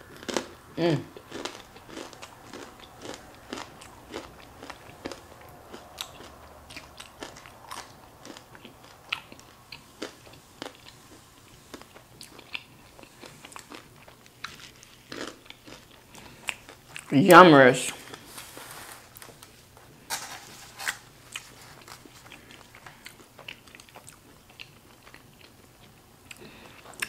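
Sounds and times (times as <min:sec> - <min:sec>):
chewing crispy fried food: 0:00.0 - 0:17.2, 0:17.8 - 0:27.0.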